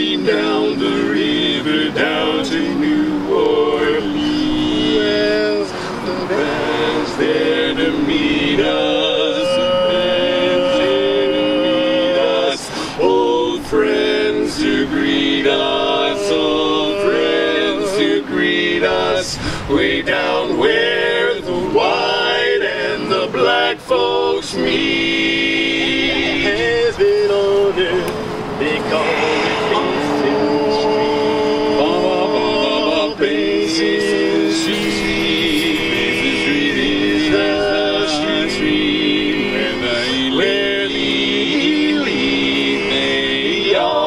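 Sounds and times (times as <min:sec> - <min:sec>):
male quartet singing a cappella: 0:00.0 - 0:44.0.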